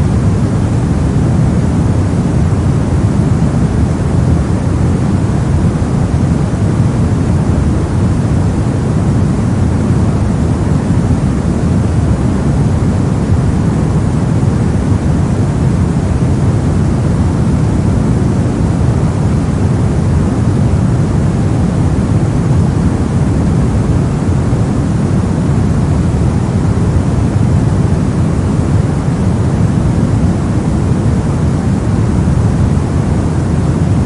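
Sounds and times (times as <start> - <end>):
brown noise rumble: 0.0 - 34.0.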